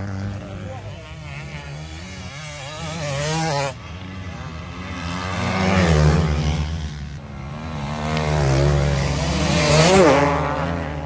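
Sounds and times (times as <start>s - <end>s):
motocross bikes revving past: 0.0s - 11.0s.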